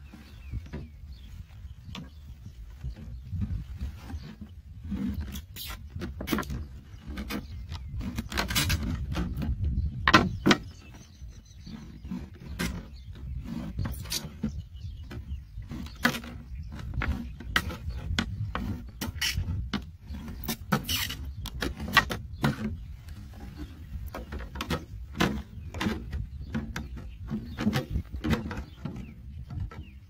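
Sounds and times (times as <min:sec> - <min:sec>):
knife cutting plastic bottle: 0:04.1 - 0:10.7, 0:11.7 - 0:29.8.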